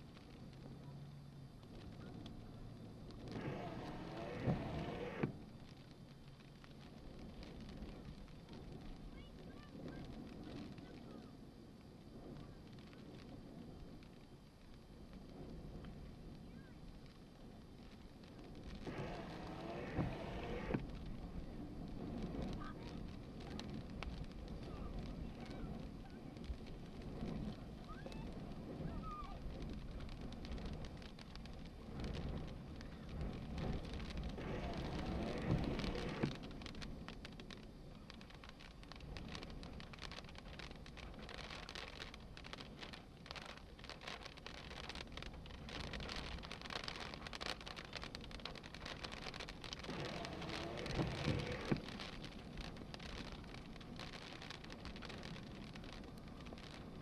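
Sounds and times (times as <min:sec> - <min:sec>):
rain pattering: 0:00.0 - 0:57.0
wind gusts on microphone: 0:01.7 - 0:05.5, 0:06.8 - 0:57.0.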